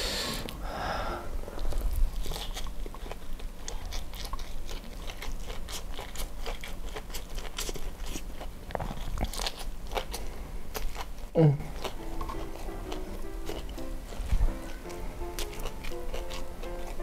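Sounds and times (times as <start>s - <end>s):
crunching while eating: 1.4s - 17.0s
wet chewing clicks: 1.6s - 17.0s.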